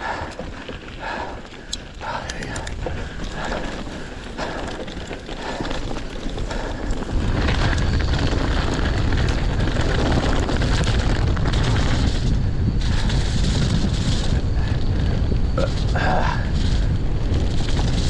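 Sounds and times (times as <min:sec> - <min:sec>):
tyres rushing over dirt: 0:00.0 - 0:18.0
wind buffeting microphone: 0:00.0 - 0:18.0.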